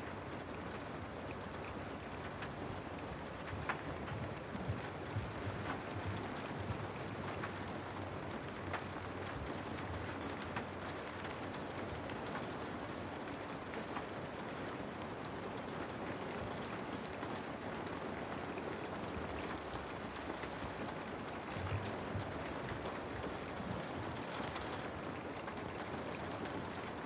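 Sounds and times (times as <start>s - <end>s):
raindrops ticking: 0.0s - 27.0s.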